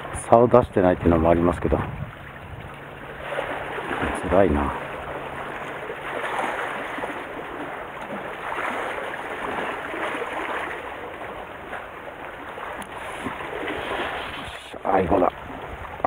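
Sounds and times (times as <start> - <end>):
sea water lapping against concrete: 0.0 - 16.0.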